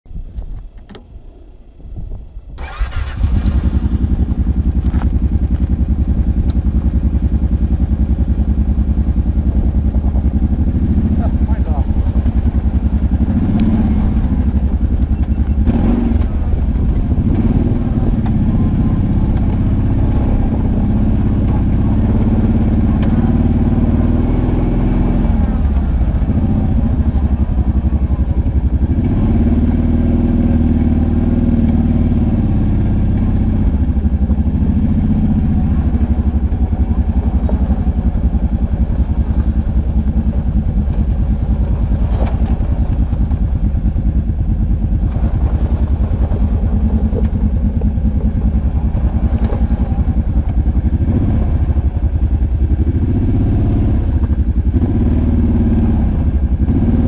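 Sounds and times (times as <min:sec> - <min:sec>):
atv engine running: 0:00.1 - 0:57.0.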